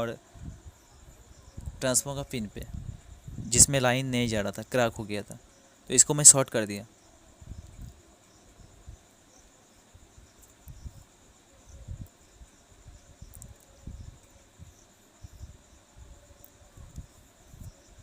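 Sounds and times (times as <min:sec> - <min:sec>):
faint high chirring: 0:00.0 - 0:18.0.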